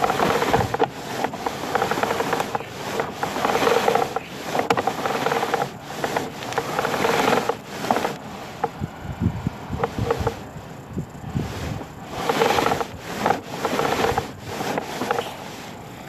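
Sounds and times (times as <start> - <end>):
camera scraping along a pipe: 0.0 - 16.0.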